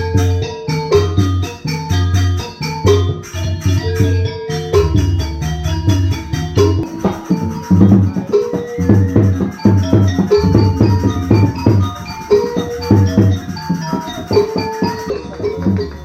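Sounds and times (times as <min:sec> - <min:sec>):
drum beat: 0:00.0 - 0:16.0
tuned percussion melody: 0:00.0 - 0:16.0.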